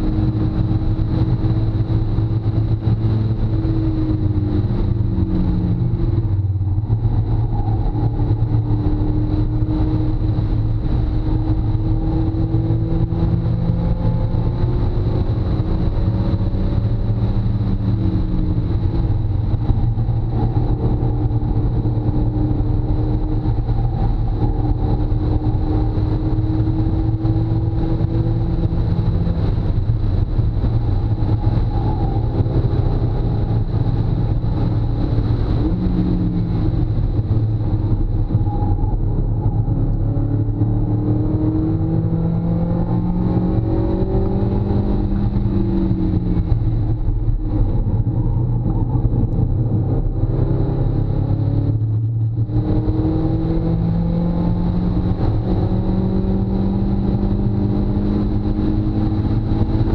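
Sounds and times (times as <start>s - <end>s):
car engine revving: 0.0s - 59.9s
wind and road noise rumble: 0.0s - 59.9s.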